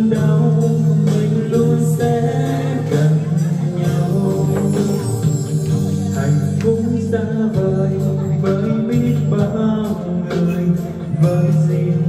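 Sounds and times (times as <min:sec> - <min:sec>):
backing track with guitar: 0:00.0 - 0:12.0
man singing into a microphone: 0:00.0 - 0:12.0.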